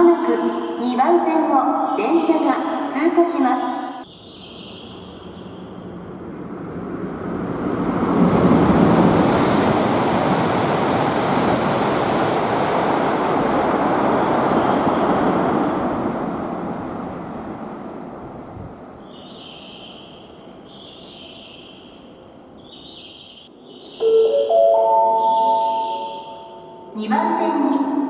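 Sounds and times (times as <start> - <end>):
high-speed train rushing past: 0.0 - 28.0.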